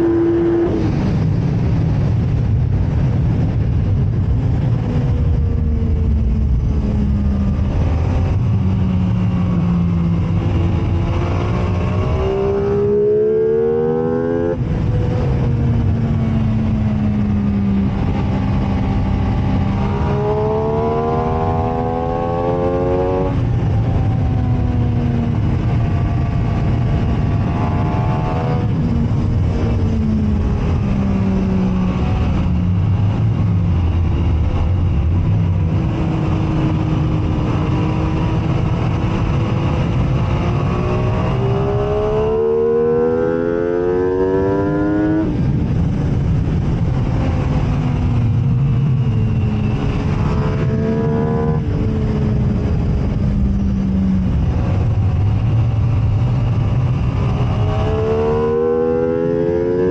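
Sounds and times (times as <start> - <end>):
motorcycle engine accelerating: 0.0 - 59.9
wind rush: 0.0 - 59.9.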